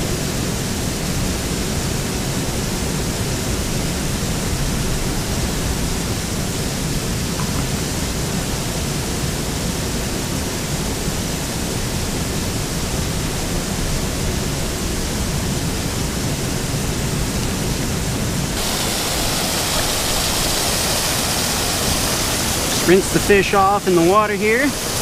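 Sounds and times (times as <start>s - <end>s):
rushing water and surf: 0.0s - 25.0s.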